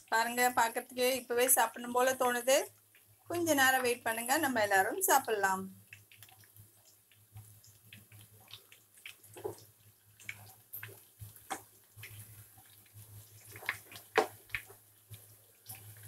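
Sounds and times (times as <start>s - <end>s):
oil bubbling and crackling: 0.0s - 16.0s.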